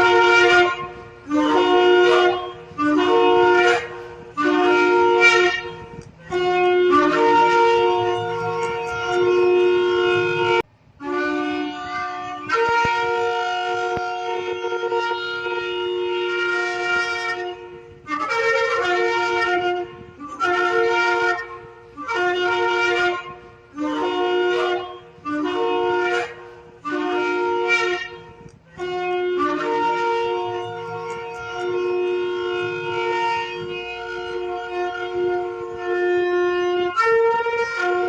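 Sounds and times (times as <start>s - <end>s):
shofar blasts: 0.0s - 38.0s.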